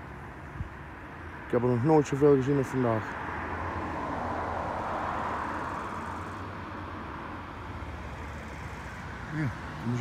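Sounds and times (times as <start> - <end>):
distant turboprop plane drone: 0.0 - 10.0.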